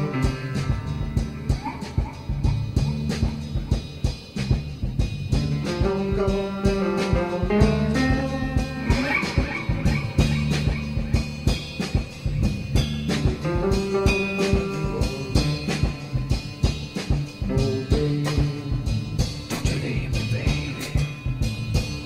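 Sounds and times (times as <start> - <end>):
instrumental band music: 0.0 - 22.0.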